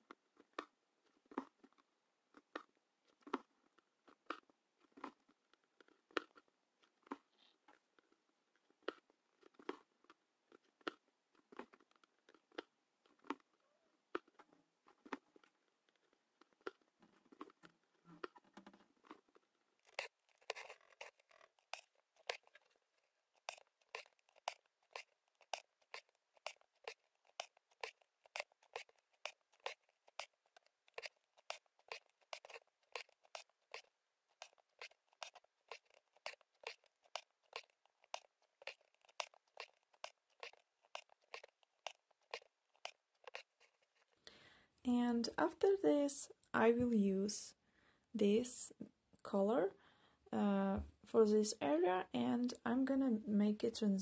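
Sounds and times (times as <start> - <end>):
needle and thread through fabric: 0.0 - 44.3.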